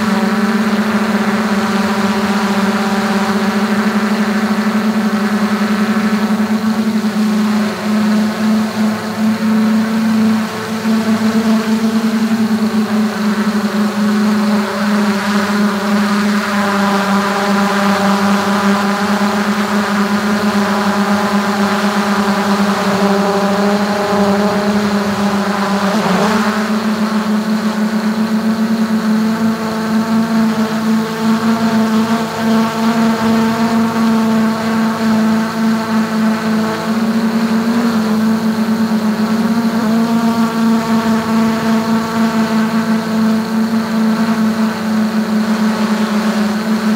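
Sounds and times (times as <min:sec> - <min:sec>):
drone propellers humming: 0:00.0 - 0:46.9.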